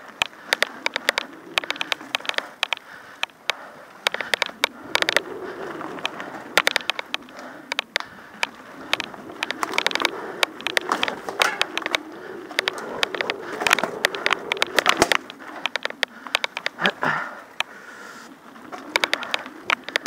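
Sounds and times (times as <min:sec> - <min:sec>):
bike rattling over bumps: 0:00.0 - 0:20.0.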